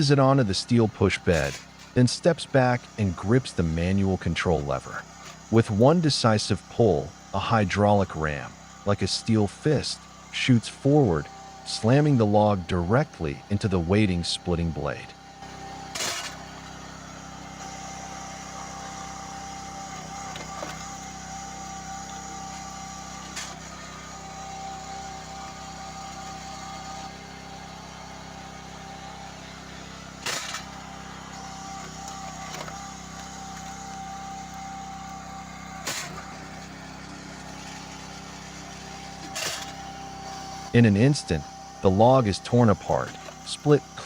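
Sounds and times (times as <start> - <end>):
log splitter engine humming: 0.0 - 44.0.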